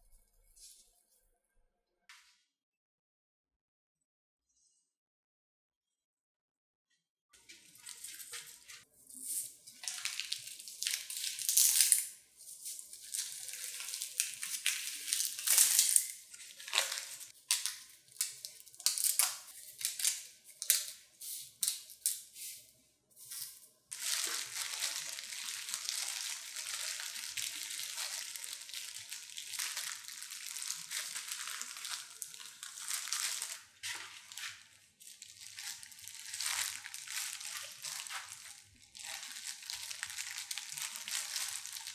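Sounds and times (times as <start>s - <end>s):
plastic gloves rustling: 7.4s - 41.9s
dry seaweed sheets crackling: 7.7s - 22.6s, 23.2s - 41.9s.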